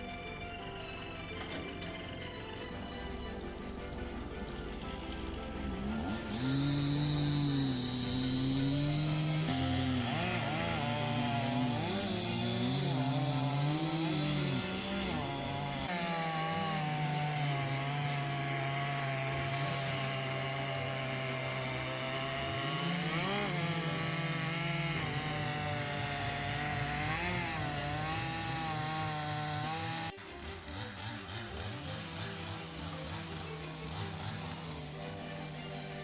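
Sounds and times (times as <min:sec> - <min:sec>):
chainsaw cutting wood: 0:00.0 - 0:36.0.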